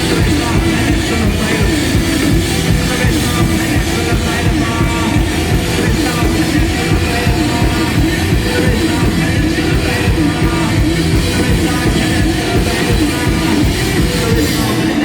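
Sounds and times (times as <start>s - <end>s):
distorted guitars: 0.0s - 15.0s
drums: 0.0s - 15.0s
live rock band playing: 0.0s - 15.0s.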